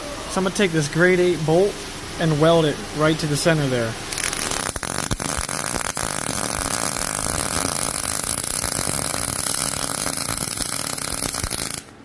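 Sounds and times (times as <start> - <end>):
welding arc crackling: 0.4 - 12.0.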